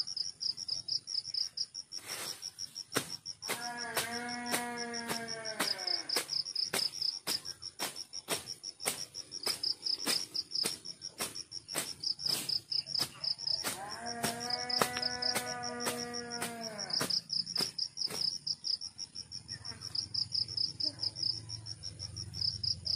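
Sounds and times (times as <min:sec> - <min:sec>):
insects chirping trill: 0:00.0 - 0:22.9.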